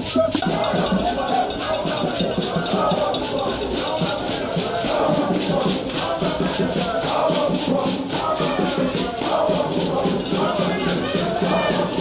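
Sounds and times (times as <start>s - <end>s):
shakers in a quick rhythm: 0.0s - 12.0s
voices: 0.0s - 12.0s.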